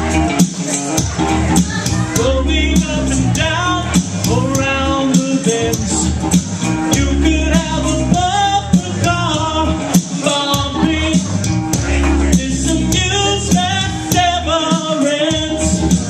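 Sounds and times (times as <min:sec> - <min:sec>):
person singing: 0:00.0 - 0:16.0
rock band with guitar and drums: 0:00.0 - 0:16.0.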